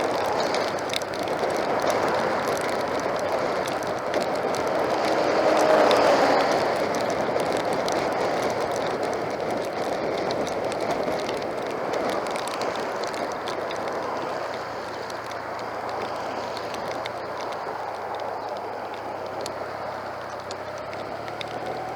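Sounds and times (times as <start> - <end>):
heavy rain: 0.0 - 21.9
rushing wind: 0.0 - 21.9
tyres on wet road: 0.0 - 21.9.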